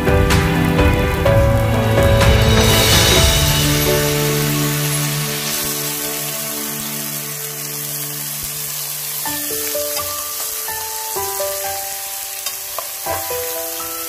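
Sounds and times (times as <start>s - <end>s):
background music: 0.0s - 14.0s
chicken sizzling in a pot: 2.4s - 14.0s.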